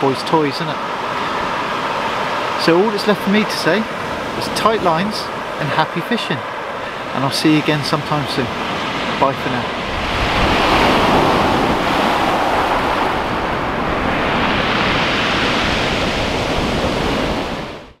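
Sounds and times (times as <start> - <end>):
waves breaking on shingle beach: 0.2 - 17.9.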